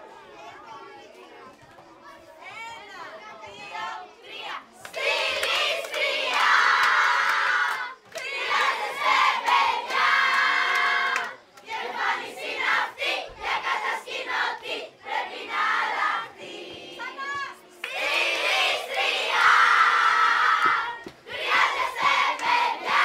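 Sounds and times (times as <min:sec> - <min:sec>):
girls chanting and shouting: 0:00.0 - 0:23.0.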